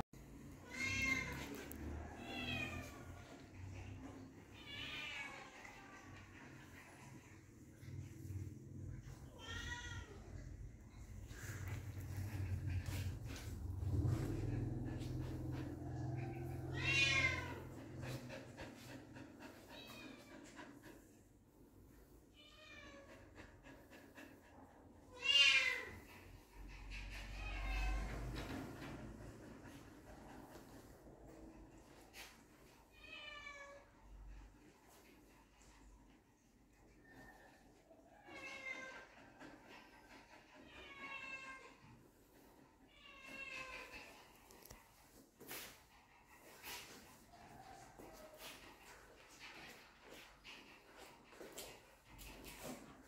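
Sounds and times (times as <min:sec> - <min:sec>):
puppy whining: 0:00.0 - 0:21.2, 0:22.5 - 0:53.0.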